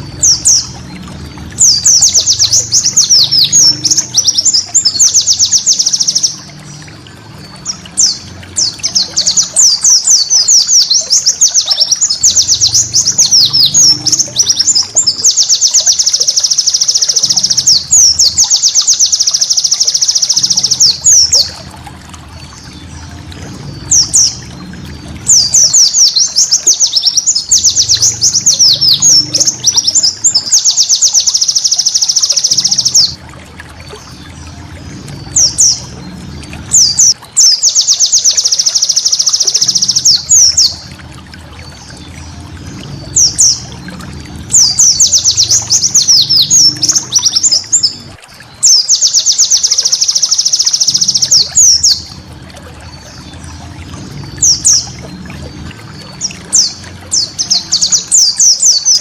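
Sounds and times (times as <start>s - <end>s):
white-eye bird singing: 0.0s - 59.0s.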